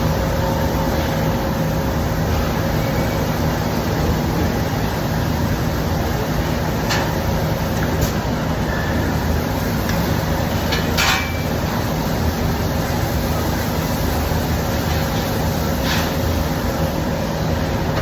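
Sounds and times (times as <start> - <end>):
mechanical drone with low hum: 0.0 - 18.0.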